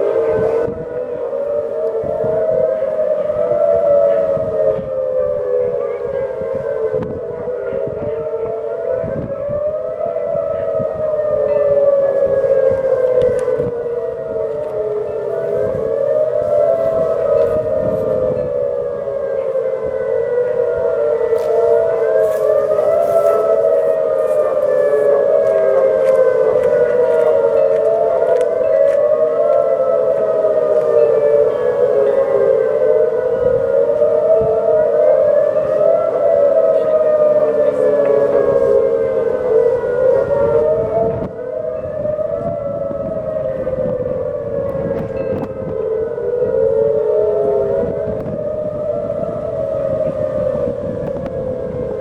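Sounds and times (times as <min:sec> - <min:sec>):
background sirens wailing: 0:00.0 - 0:52.0
civil defense siren wailing: 0:00.0 - 0:52.0.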